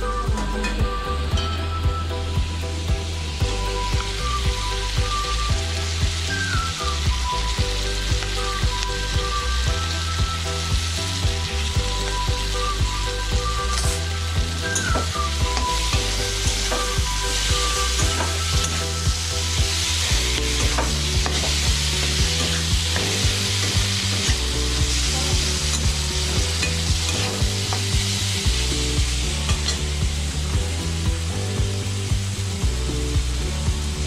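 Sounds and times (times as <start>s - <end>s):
vegetables sizzling in a pan: 1.3s - 34.0s.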